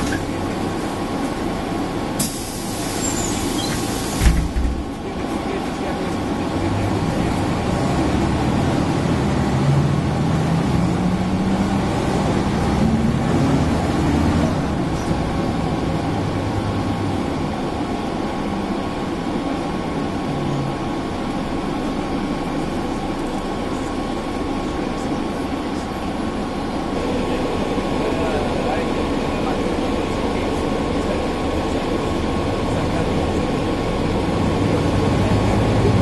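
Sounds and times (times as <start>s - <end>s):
bus engine accelerating: 0.0s - 36.0s.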